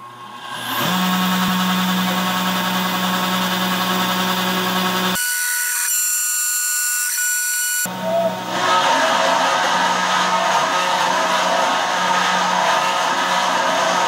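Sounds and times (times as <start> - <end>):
mill cutting whine: 0.0 - 14.0
milling machine spindle running: 0.0 - 14.0.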